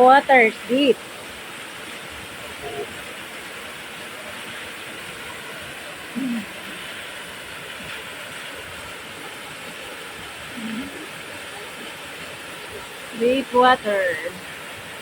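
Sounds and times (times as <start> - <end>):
small waterfall rushing: 0.0 - 15.0.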